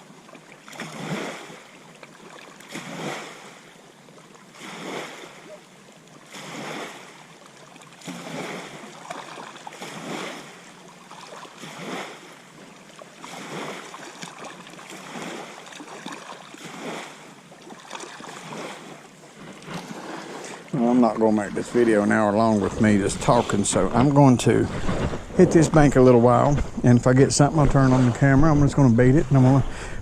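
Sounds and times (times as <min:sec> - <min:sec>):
small waves lapping: 0:00.0 - 0:30.0.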